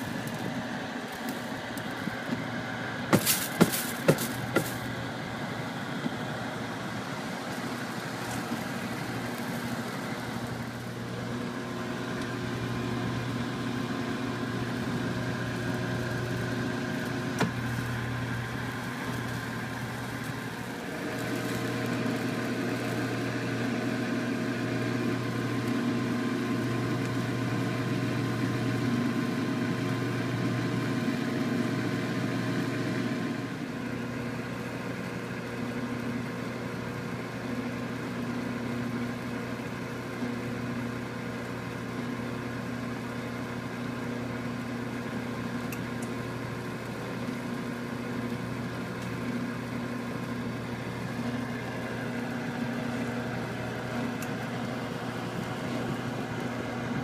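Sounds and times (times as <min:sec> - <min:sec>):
motor hum: 0:00.0 - 0:57.0.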